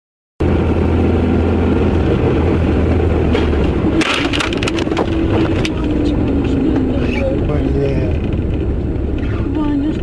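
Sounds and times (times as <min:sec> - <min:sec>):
car engine and road noise: 0:00.4 - 0:10.0.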